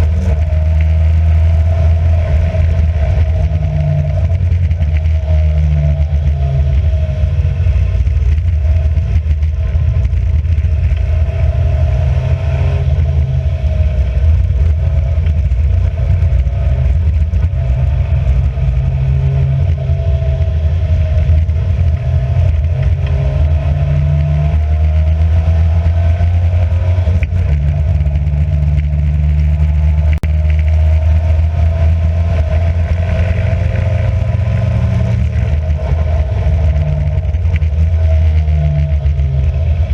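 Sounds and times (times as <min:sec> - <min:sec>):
racing car engine under load: 0:00.0 - 0:39.9.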